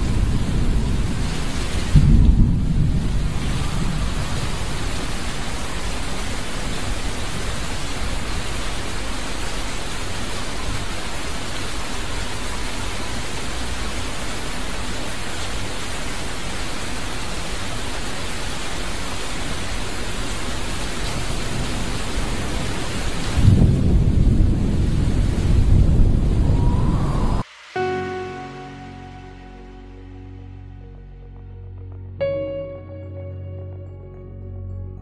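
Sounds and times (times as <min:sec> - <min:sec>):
wind and heavy rain hiss: 0:00.0 - 0:30.8.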